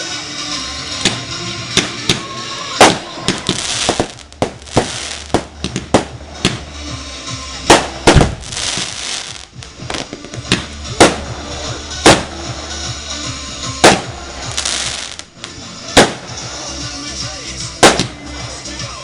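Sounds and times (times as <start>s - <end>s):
fireworks bangs and pops: 0.9s - 6.9s, 7.5s - 18.9s
fireworks crackling hiss: 0.9s - 18.9s.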